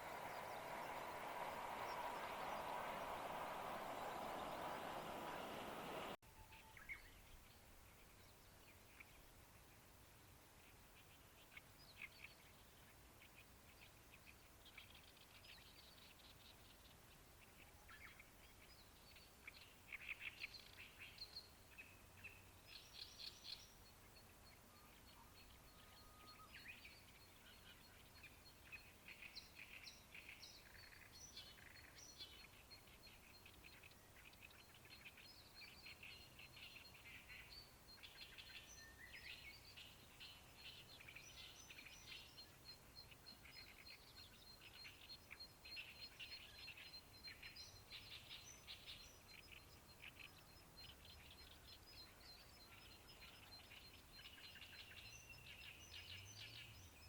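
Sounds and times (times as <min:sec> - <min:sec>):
songbirds chattering: 0:00.0 - 0:09.2, 0:10.6 - 0:57.0.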